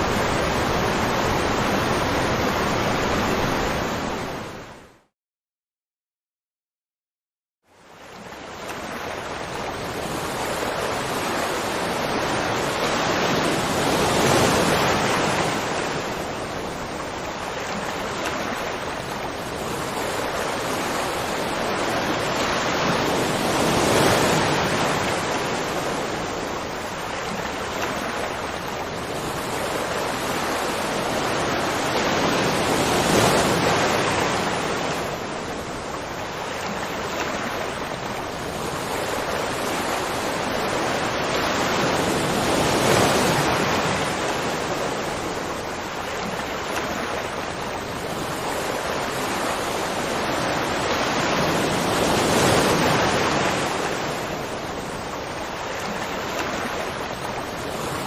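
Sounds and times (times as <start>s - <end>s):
water rushing: 0.0s - 5.1s, 7.7s - 58.0s.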